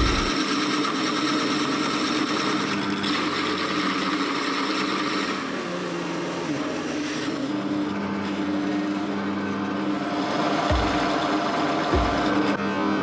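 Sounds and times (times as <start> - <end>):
drill press motor humming: 0.0 - 13.0.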